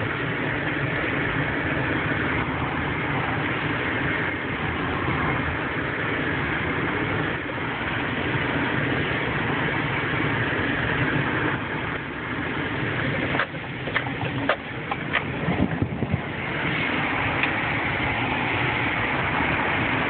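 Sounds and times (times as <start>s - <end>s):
car driving on dirt rumble: 0.0s - 20.0s.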